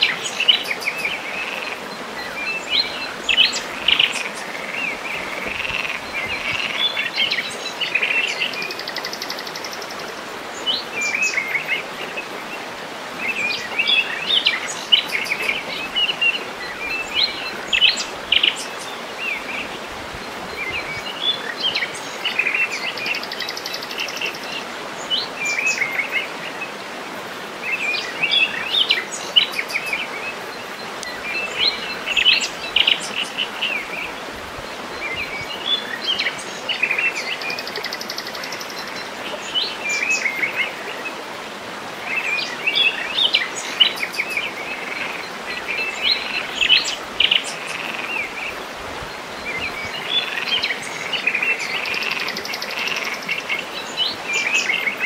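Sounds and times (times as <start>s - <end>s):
small waterfall over rocks: 0.0s - 55.0s
songbirds chirping: 0.0s - 55.0s.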